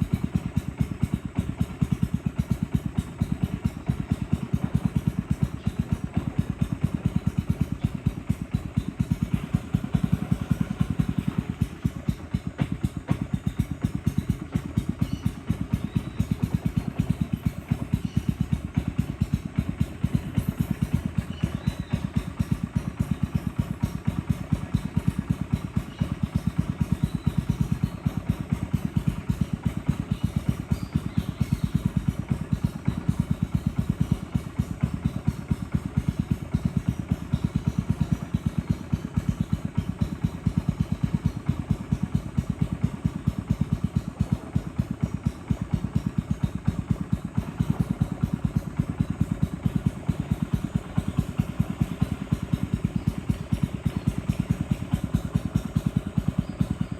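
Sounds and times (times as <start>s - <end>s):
boat engine chugging: 0.0s - 56.9s.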